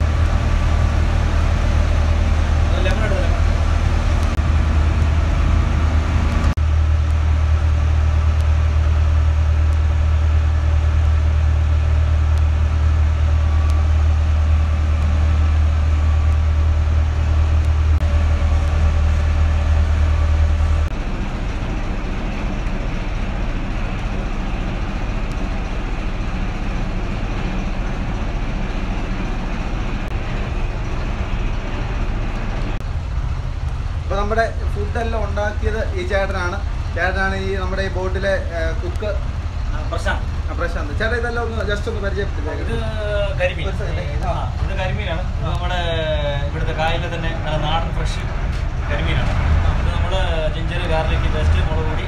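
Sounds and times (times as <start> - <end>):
engine droning: 0.0 - 52.0.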